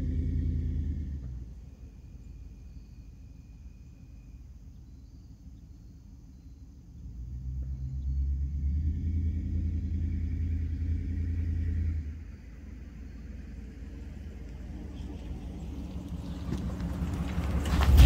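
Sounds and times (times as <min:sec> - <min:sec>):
deep exhaust rumble: 0:00.0 - 0:18.0.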